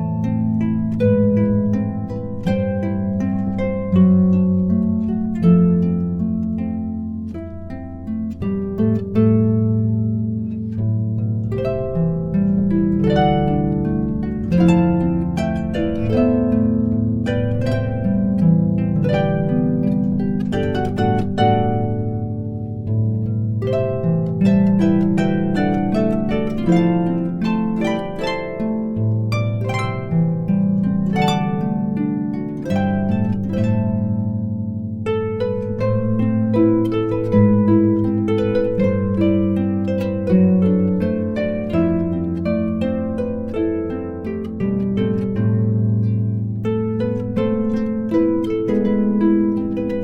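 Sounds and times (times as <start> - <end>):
harp playing pop melody: 0.0 - 50.0.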